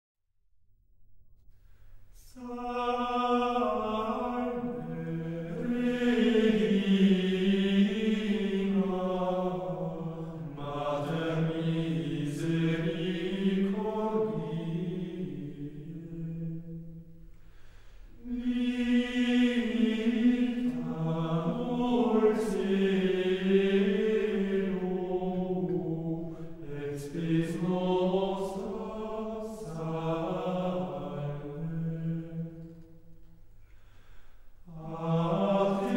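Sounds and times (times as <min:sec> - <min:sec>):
voices singing chant: 0:02.2 - 0:17.0, 0:18.2 - 0:32.8, 0:34.7 - 0:35.9.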